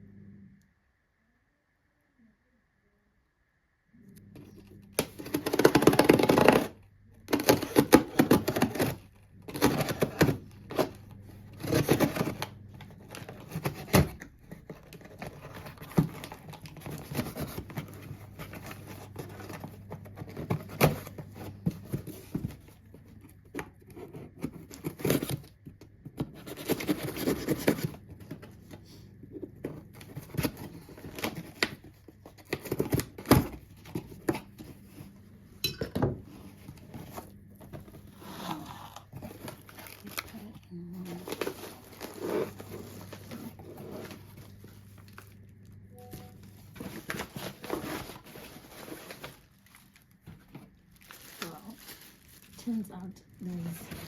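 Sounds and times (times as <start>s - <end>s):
packaging rustling and tearing: 4.6s - 25.6s, 26.2s - 28.5s, 29.6s - 35.1s, 36.3s - 54.0s.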